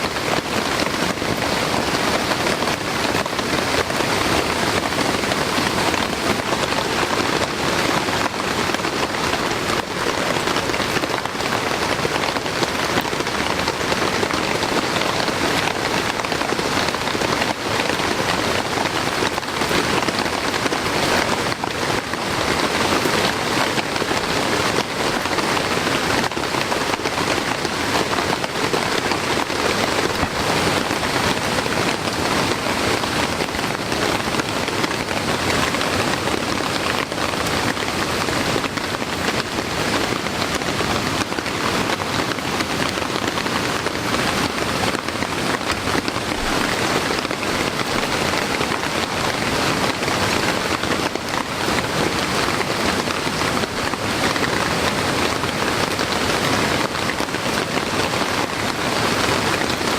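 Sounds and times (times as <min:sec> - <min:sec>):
heavy rain hitting a surface: 0:00.0 - 0:59.9.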